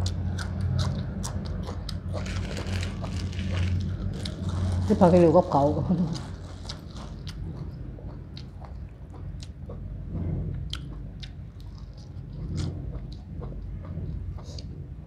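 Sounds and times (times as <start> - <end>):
person chewing with smacking clicks: 0.0 - 4.9, 6.1 - 14.8
steady low hum: 0.0 - 15.0.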